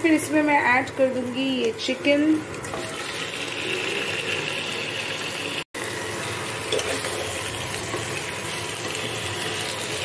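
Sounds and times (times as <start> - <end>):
chicken sizzling in hot oil: 0.1 - 10.0.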